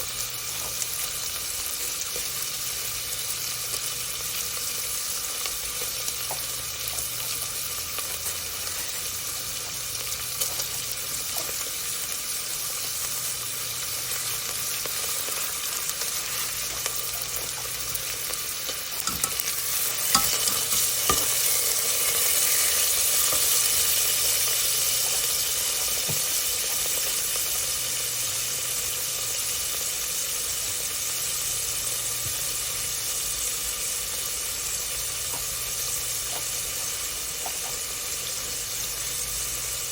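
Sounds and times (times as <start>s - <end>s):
food sizzling in a pot: 0.0s - 39.9s.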